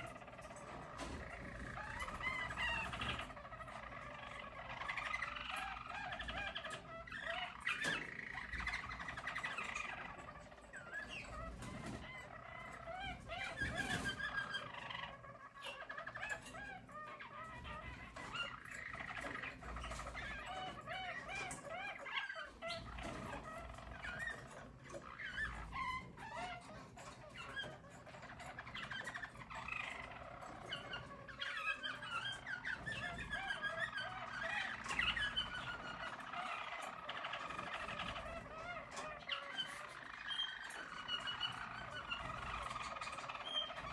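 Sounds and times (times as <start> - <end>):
canaries singing trills: 0.0 - 43.9.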